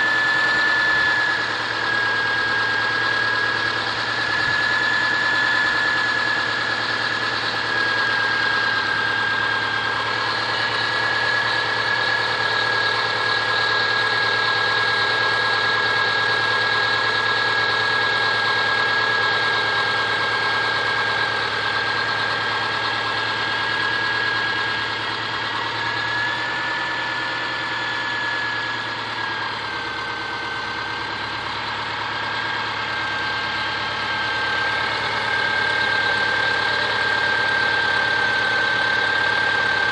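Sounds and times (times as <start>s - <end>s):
car engine idling with knock: 0.0s - 39.9s
high-pitched whine: 0.0s - 39.9s.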